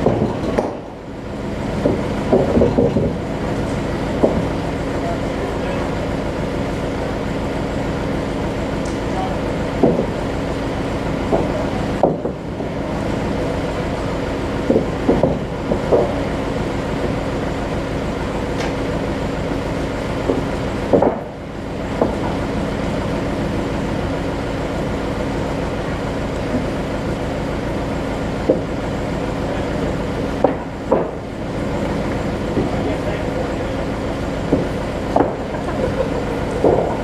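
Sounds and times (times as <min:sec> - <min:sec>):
sawmill machinery humming: 0:00.0 - 0:37.0.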